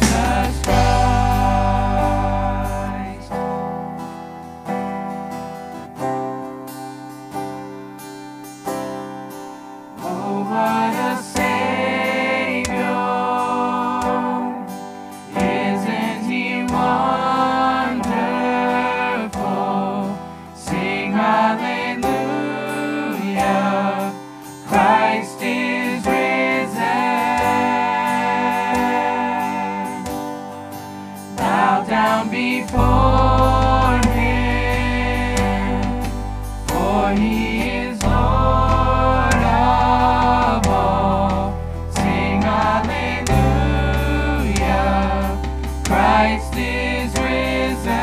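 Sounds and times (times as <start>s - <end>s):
voices singing together: 0.0s - 3.4s, 10.0s - 30.6s, 31.3s - 48.0s
worship band playing: 0.0s - 4.1s, 10.0s - 48.0s.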